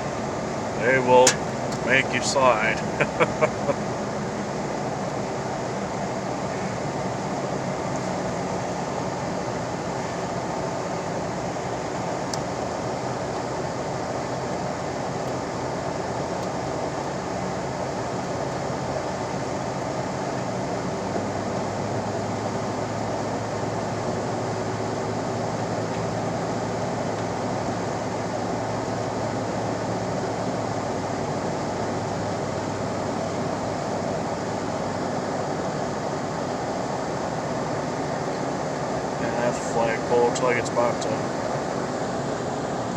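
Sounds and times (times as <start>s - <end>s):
car cabin road noise: 0.0s - 42.9s
low engine hum: 0.0s - 42.9s.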